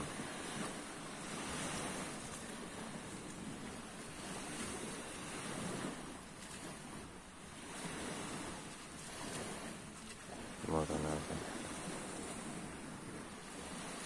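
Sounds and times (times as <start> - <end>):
sea waves washing ashore: 0.0 - 14.0
wind on microphone: 0.0 - 14.0.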